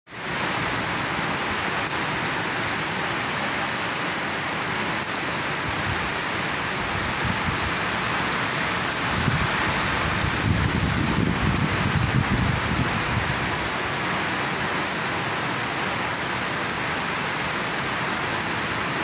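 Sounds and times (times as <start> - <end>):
heavy rain on foliage: 0.1 - 19.0.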